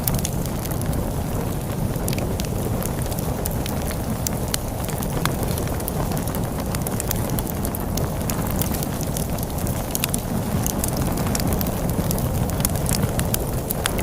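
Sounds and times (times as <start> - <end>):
log fire crackling: 0.0 - 14.0
storm wind rumble: 0.0 - 14.0.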